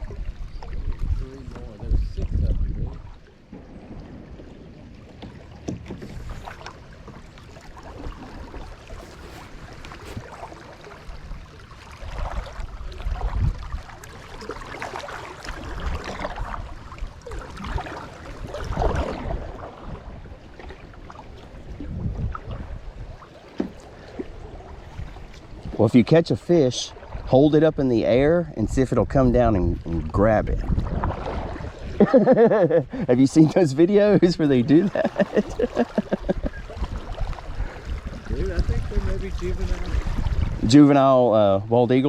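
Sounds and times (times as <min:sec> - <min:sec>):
wind rumble on microphone: 0:00.0 - 0:33.1, 0:34.0 - 0:42.0
water splashing around a kayak: 0:00.0 - 0:42.0.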